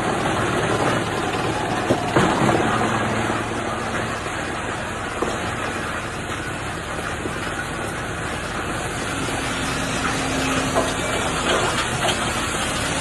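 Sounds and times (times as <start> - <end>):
wood chipper running: 0.0 - 13.0.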